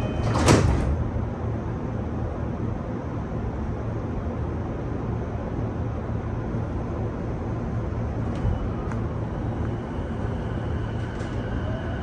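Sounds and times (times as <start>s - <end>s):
electric train low hum: 0.0s - 12.0s.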